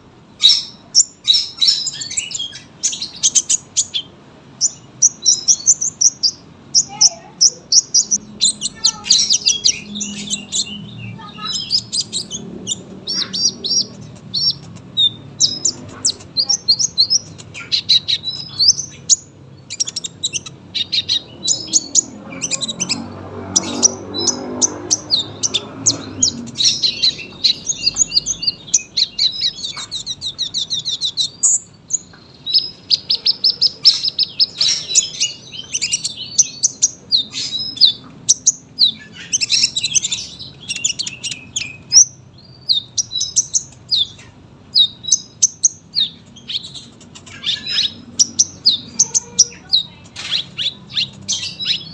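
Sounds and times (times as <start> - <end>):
sunbird singing trills: 0.4 - 51.9.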